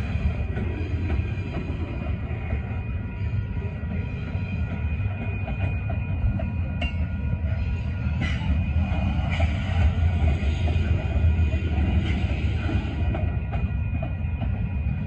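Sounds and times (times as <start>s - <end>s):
sharp high noises from train cars: 0.0s - 15.0s
train wheels rumbling on rails: 0.0s - 15.0s.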